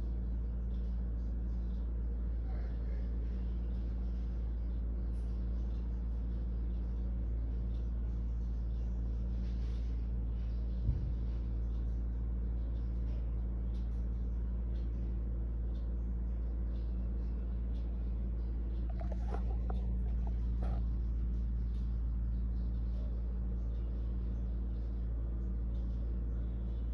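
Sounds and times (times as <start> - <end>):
faint muffled sounds: 0.0 - 26.9
low electrical hum: 0.0 - 26.9.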